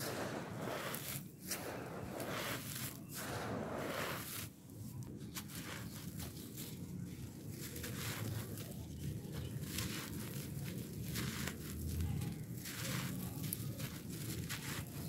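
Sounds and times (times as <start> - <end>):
dry dirt pouring through fingers: 0.0 - 15.0.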